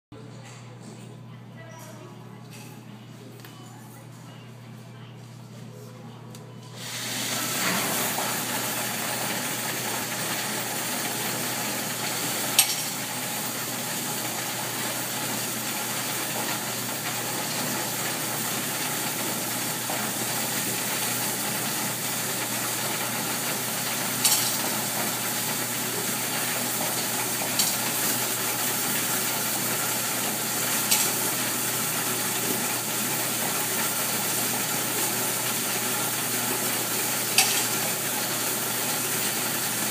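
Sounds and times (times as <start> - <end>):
coin counting machine whirring: 6.8 - 39.9.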